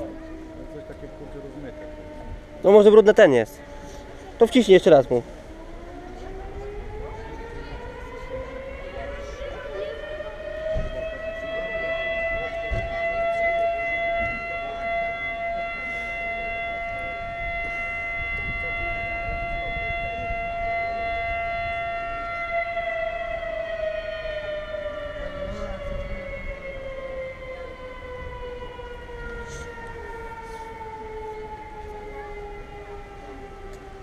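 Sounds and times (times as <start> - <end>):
warning siren: 0.0 - 34.0.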